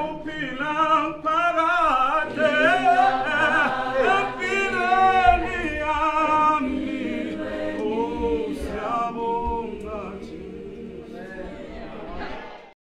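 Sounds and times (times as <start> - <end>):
mixed choir singing a cappella: 0.0 - 12.8.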